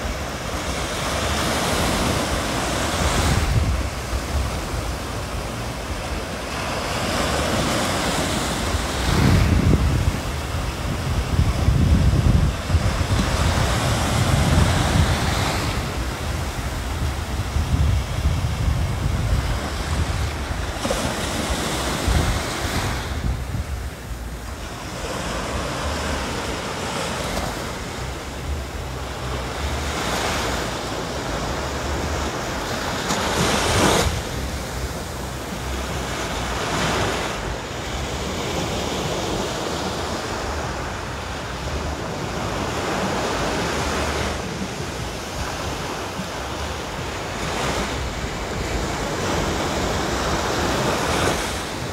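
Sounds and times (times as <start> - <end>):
small waves breaking on beach: 0.0 - 51.9.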